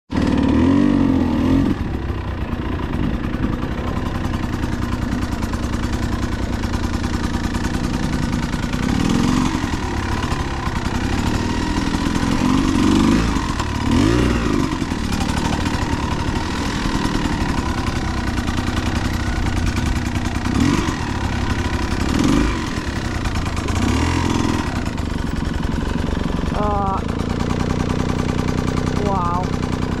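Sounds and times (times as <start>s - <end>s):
dirt bike engine revving: 0.1s - 30.0s.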